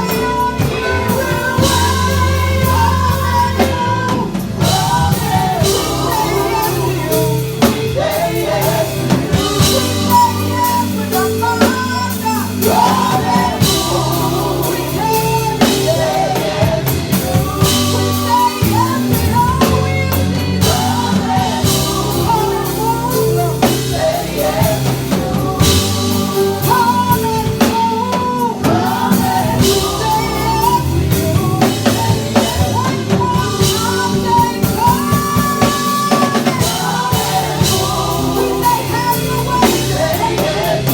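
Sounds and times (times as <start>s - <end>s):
drum kit: 0.0s - 40.9s
people singing: 0.0s - 40.9s
worship band playing: 0.0s - 40.9s.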